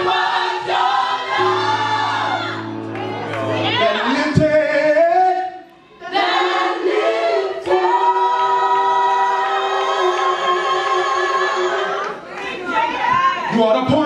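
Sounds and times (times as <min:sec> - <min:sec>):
gospel choir singing: 0:00.0 - 0:13.3.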